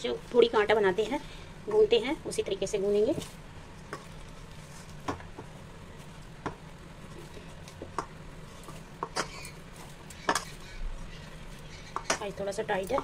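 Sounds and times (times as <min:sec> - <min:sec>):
hands kneading dough: 0:00.0 - 0:13.0.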